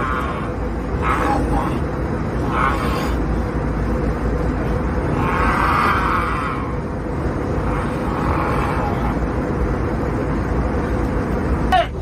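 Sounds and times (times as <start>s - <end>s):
airliner cabin noise: 0.0s - 12.0s.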